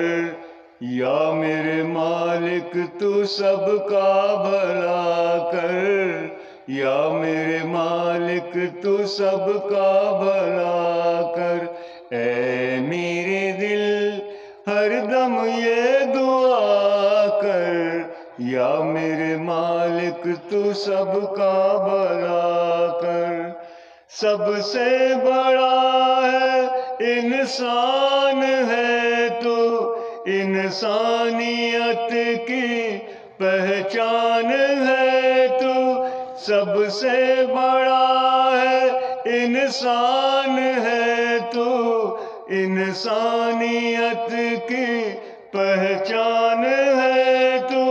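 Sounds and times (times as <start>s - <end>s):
man singing into microphone: 0.0s - 47.9s.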